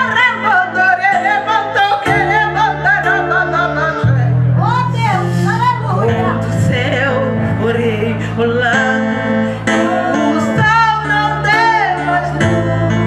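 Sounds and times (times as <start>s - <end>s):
amplified instrumental accompaniment: 0.0s - 13.0s
woman singing through microphone: 0.0s - 13.0s.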